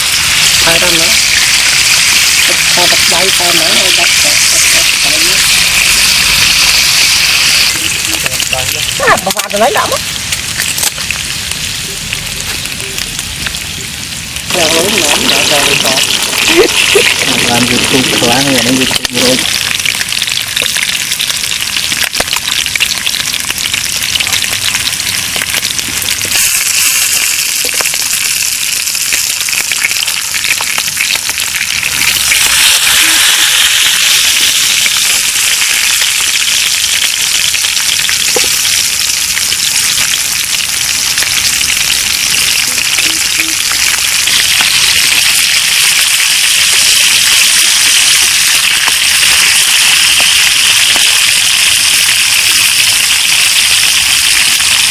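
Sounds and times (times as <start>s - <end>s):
food sizzling in hot oil: 0.0s - 54.9s.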